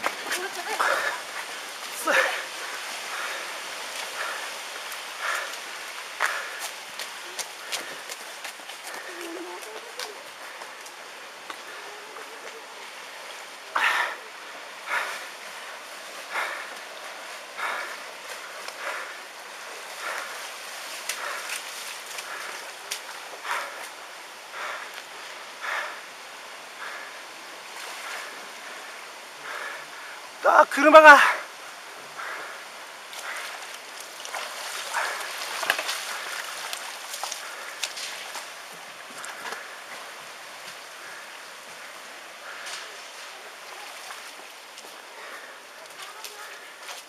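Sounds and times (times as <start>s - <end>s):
footsteps wading through water: 0.0s - 26.0s, 33.0s - 47.0s
floodwater rushing: 0.0s - 47.0s.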